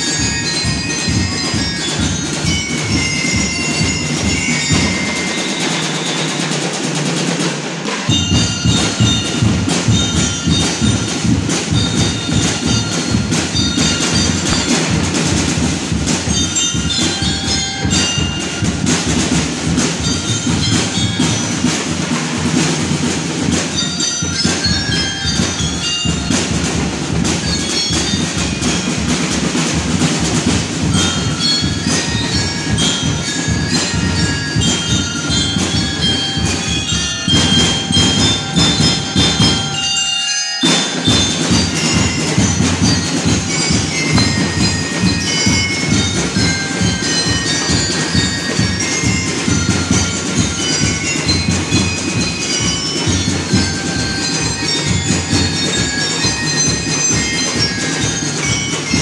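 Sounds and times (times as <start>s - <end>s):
bell lyres ringing: 0.0s - 59.0s
marching drums: 0.0s - 59.0s.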